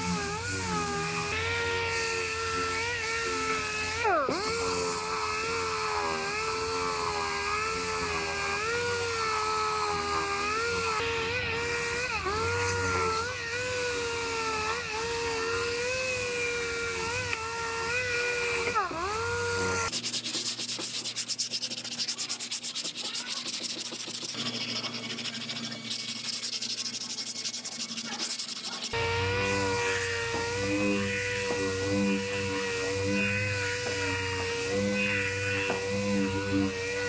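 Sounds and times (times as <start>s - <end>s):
orbital sander whining: 0.0s - 37.0s.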